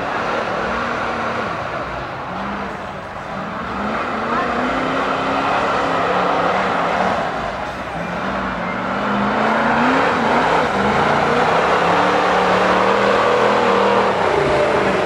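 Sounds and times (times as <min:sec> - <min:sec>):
engine revving: 0:00.0 - 0:15.0
tires spinning in mud: 0:00.0 - 0:15.0.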